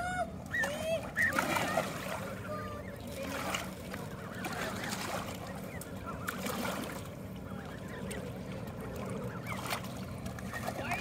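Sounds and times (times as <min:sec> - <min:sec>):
ducks calling: 0:00.4 - 0:11.0.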